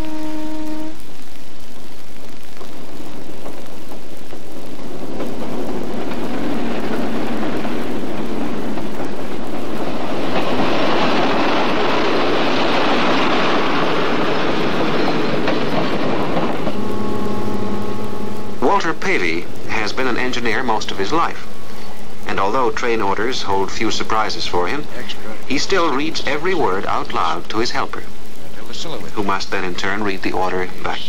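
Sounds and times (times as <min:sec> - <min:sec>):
passenger train passing at speed: 0:00.0 - 0:01.0, 0:02.6 - 0:27.0.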